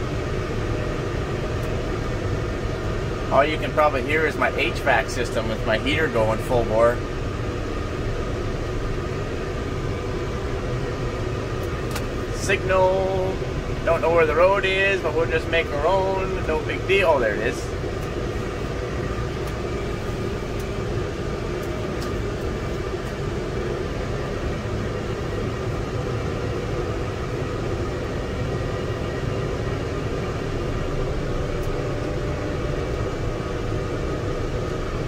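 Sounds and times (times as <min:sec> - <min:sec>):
heater fan running: 0:00.0 - 0:35.0
tractor engine humming: 0:00.0 - 0:35.0.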